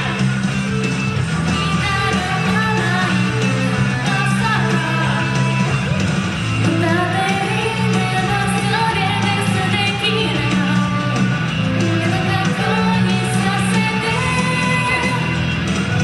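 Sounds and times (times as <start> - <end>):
karaoke backing track: 0.0 - 16.0
woman singing into a microphone: 1.6 - 5.6, 6.6 - 15.6.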